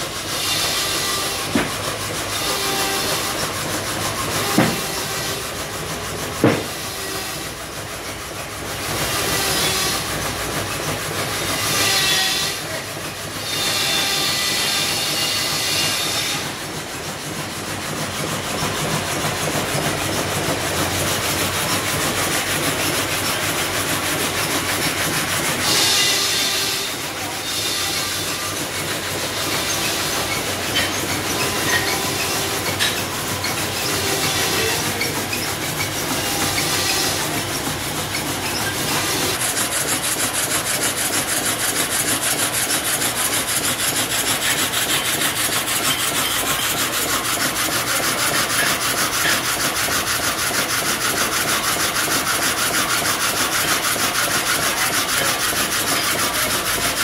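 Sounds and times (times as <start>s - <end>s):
high-pitched machine whine: 0.0s - 57.0s
log carriage rattling on rails: 0.0s - 57.0s
saw cutting logs: 0.0s - 57.0s.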